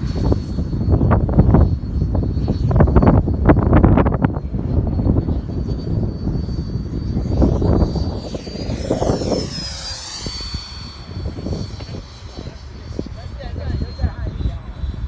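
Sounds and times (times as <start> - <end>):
model jet fan whine: 0.0 - 15.0
wind buffeting microphone: 0.0 - 15.0.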